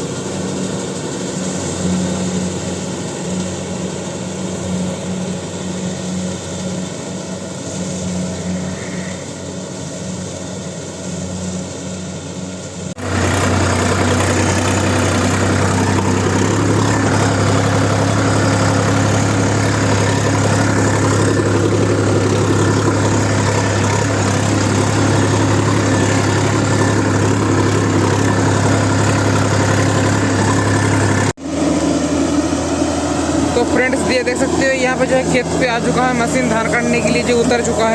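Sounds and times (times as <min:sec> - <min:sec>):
deep engine drone: 0:00.0 - 0:37.9
diesel engine running: 0:00.0 - 0:37.9.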